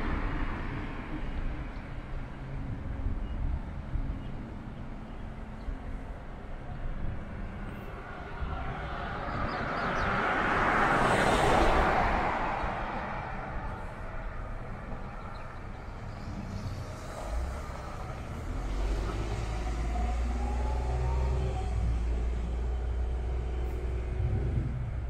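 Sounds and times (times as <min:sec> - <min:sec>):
motor vehicle rumble: 0:00.0 - 0:25.0.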